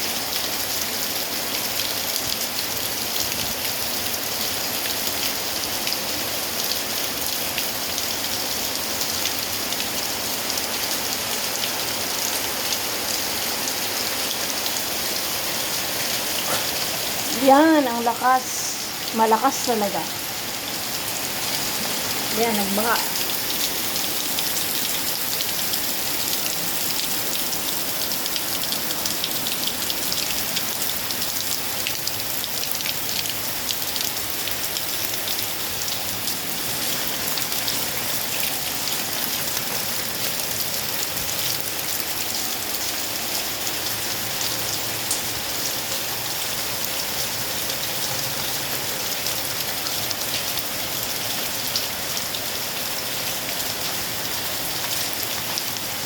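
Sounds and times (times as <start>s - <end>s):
heavy rain pouring: 0.1s - 56.0s.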